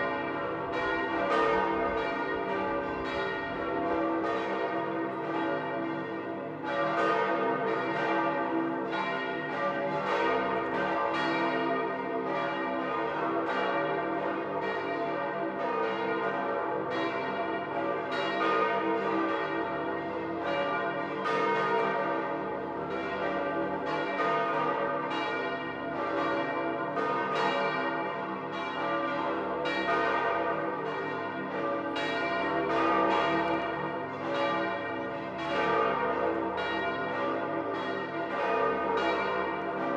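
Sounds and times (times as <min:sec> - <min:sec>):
large church bells pealing: 0:00.0 - 0:39.9.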